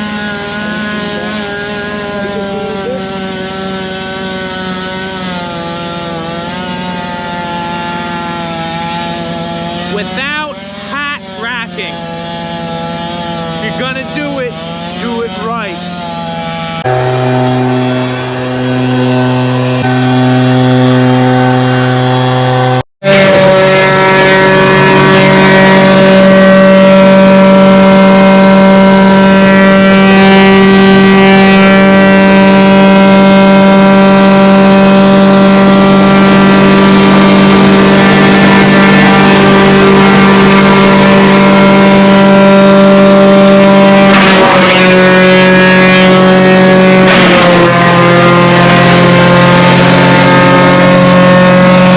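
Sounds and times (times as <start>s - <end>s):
small petrol engine running: 0.0s - 51.9s.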